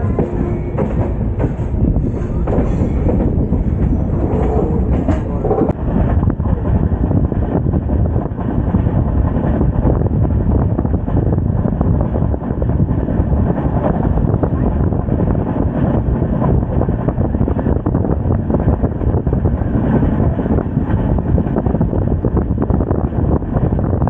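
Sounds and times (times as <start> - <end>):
passenger train running: 0.0 - 24.0
wind buffeting microphone: 0.0 - 24.0.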